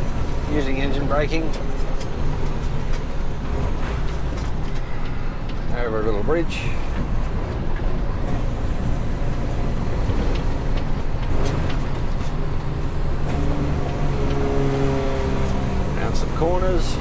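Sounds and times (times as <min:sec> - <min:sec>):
road and wind noise: 0:00.0 - 0:17.0
truck diesel engine running: 0:00.0 - 0:17.0.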